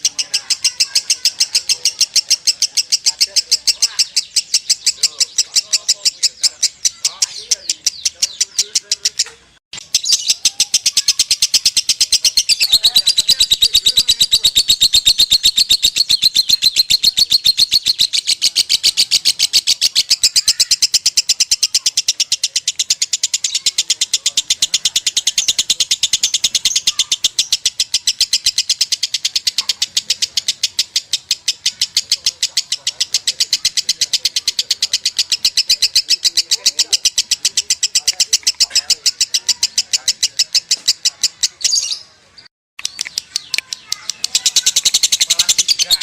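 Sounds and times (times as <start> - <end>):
lovebird chattering: 0.0 - 46.0.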